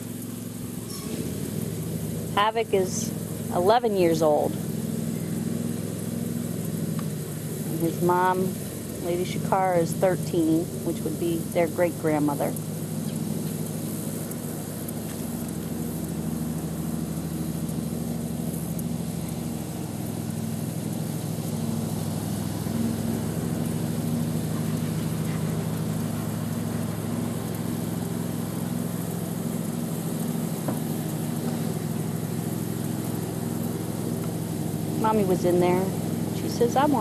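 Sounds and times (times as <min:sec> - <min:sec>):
engine droning: 0:00.0 - 0:37.0.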